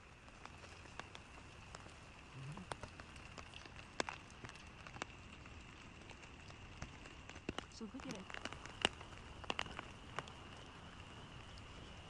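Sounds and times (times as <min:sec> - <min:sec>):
light rain patter: 0:00.0 - 0:12.0.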